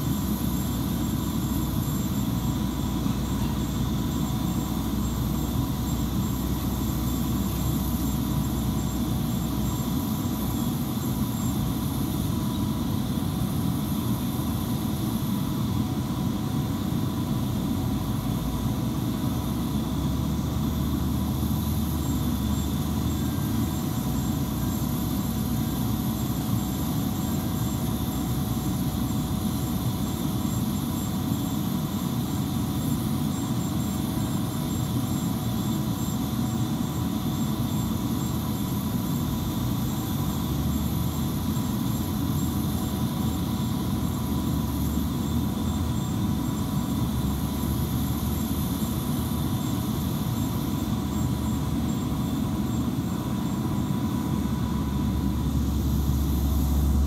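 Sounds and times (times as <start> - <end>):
jet turbines whining: 0.0 - 57.0.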